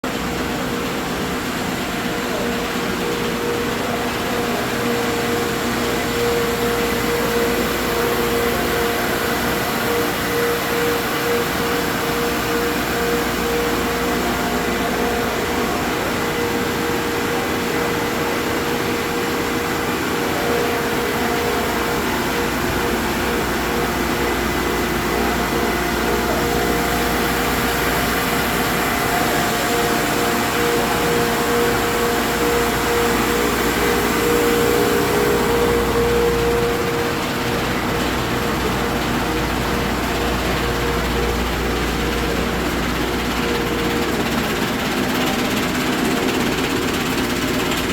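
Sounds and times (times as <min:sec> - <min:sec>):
furnace mechanical drone: 0:00.0 - 0:47.9
constant hum: 0:00.1 - 0:47.9
faint high whine: 0:02.0 - 0:45.4.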